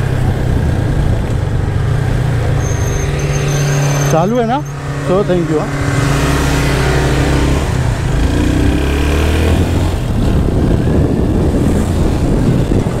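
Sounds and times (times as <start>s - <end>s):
wind buffeting microphone: 0.0s - 2.6s, 4.8s - 13.0s.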